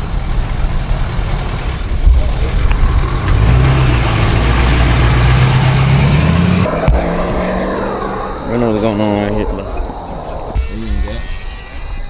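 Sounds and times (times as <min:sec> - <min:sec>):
car engine droning: 0:00.0 - 0:11.4.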